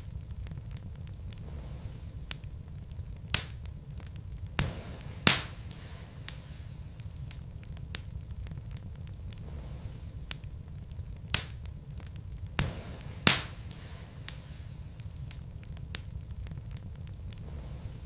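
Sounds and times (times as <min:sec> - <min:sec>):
fire low rumble: 0:00.0 - 0:18.0
wood crackling and popping: 0:00.0 - 0:18.0.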